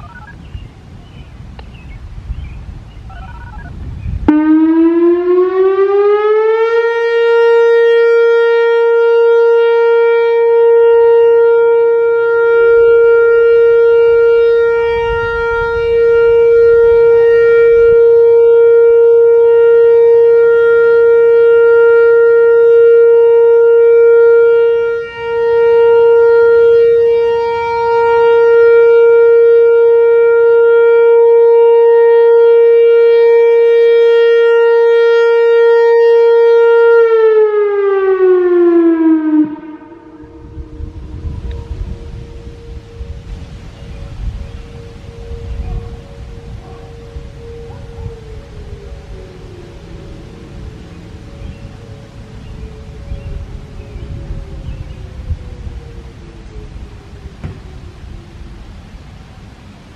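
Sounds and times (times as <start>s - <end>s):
warning siren rising tone: 0.0s - 59.9s.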